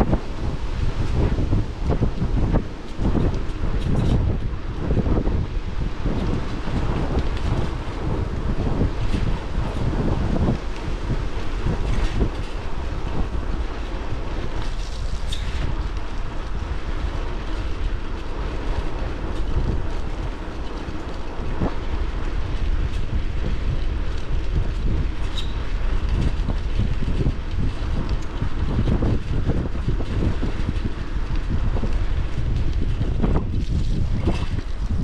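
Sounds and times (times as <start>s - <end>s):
bike clicks and rattles: 0.0s - 35.0s
tyres rumbling on road: 0.0s - 35.0s
wind buffeting microphone: 0.0s - 35.0s.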